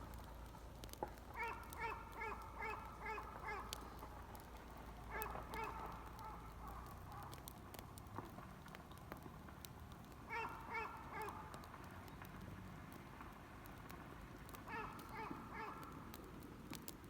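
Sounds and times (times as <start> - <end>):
faint clicks: 0.0 - 17.0.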